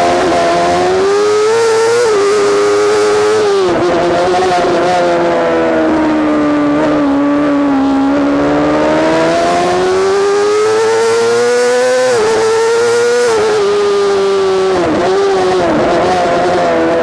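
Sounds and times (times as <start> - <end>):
motorcycle engine at speed: 0.0 - 17.0.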